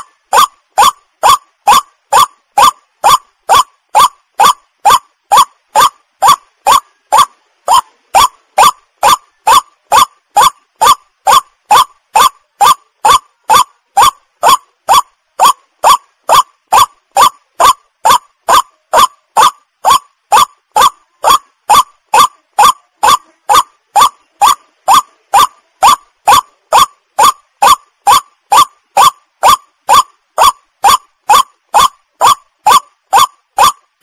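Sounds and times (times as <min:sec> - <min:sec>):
waterhen calling harsh notes: 0:00.0 - 0:33.9.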